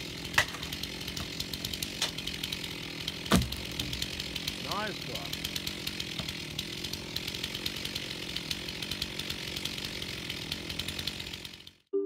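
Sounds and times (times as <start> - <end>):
chainsaw idling: 0.0 - 11.8.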